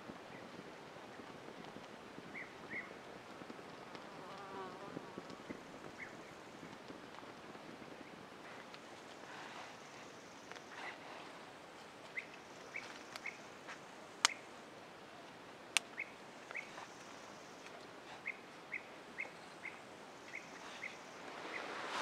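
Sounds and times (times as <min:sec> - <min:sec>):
faint outdoor hush: 0:00.0 - 0:22.0.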